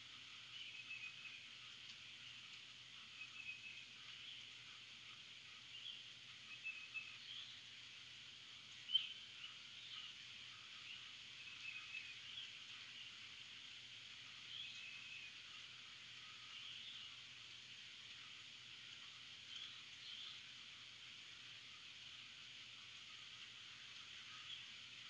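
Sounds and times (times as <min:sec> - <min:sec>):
birds chirping: 0:00.0 - 0:25.0
rain hissing: 0:00.0 - 0:25.0.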